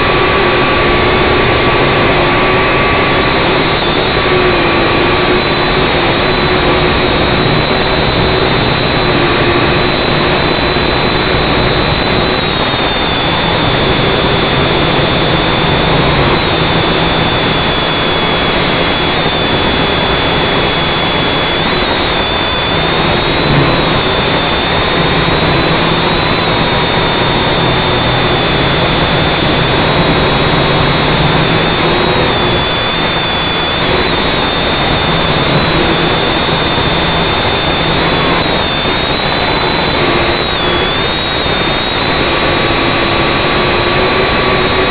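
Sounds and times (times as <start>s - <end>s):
quadcopter motors buzzing and whining: 0.0s - 44.9s.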